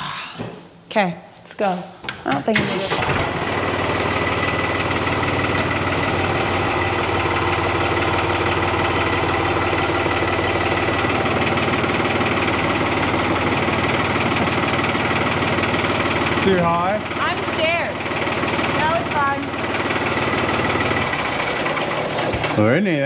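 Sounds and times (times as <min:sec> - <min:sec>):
tractor engine running: 0:02.2 - 0:23.0.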